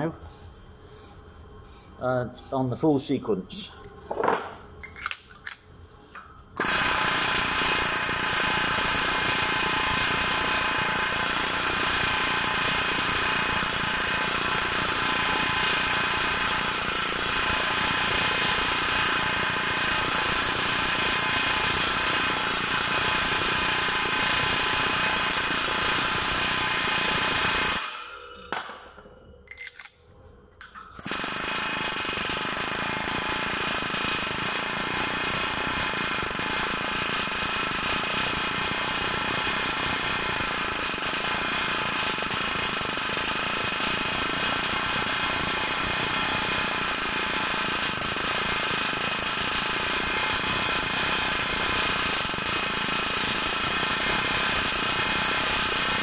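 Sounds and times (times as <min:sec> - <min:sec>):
pneumatic hammer hammering: 0:06.6 - 0:28.9, 0:30.7 - 0:56.0.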